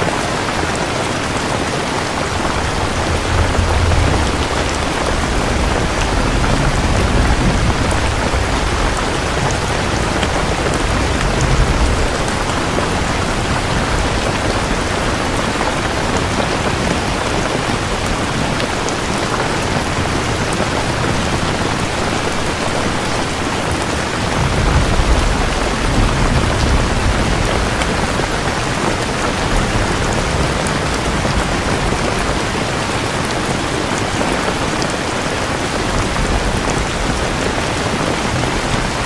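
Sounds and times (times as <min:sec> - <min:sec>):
heavy rain: 0:00.0 - 0:39.0
thunder rumble: 0:00.1 - 0:39.0.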